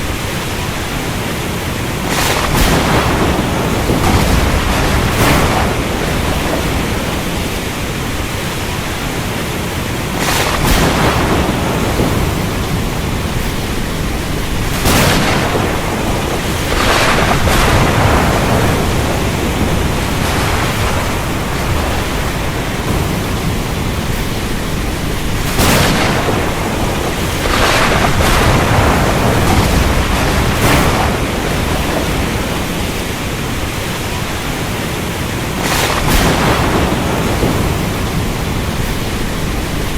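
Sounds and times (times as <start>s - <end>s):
low thunder rumbling: 0.0s - 39.9s
steady rain: 0.0s - 39.9s
sharp thunder cracks: 2.0s - 9.1s, 10.1s - 33.7s, 35.5s - 39.9s.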